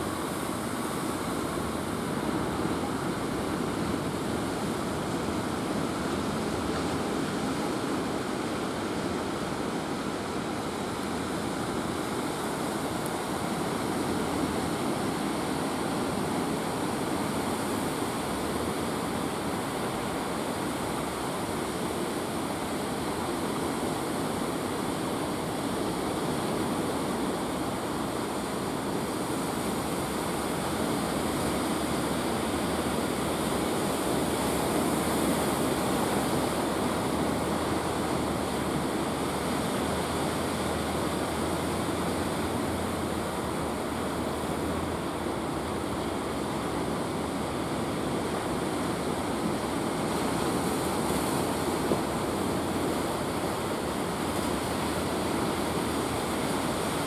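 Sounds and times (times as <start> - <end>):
waves breaking: 0.0 - 57.0.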